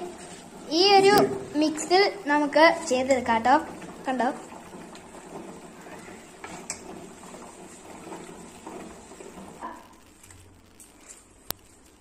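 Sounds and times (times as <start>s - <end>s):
spoon stirring batter in metal bowl: 0.0s - 11.7s.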